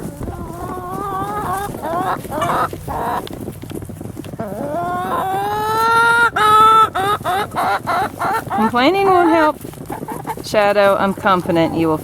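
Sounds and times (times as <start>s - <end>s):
animal complaining calls: 0.0s - 3.3s, 4.4s - 12.0s.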